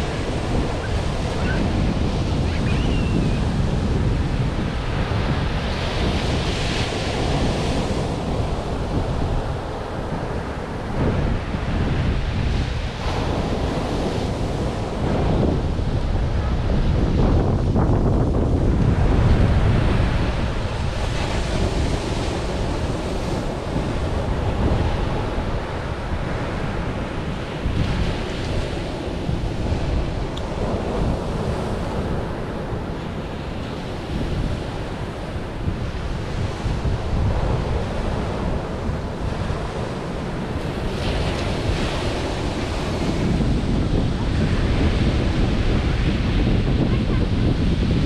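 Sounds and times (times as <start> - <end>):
waves breaking on beach: 0.0 - 48.0
wind rumbling on microphone: 0.0 - 48.0.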